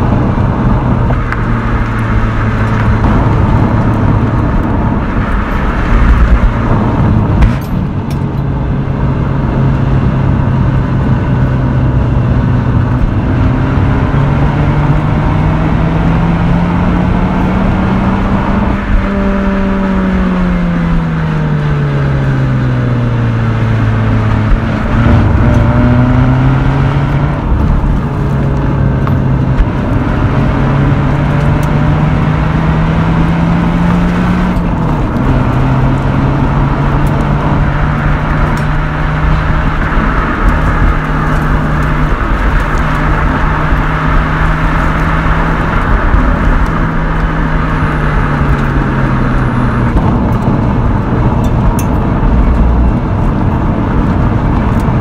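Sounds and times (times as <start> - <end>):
road and tyre noise: 0.0 - 55.0
rotary engine and exhaust: 0.0 - 55.0.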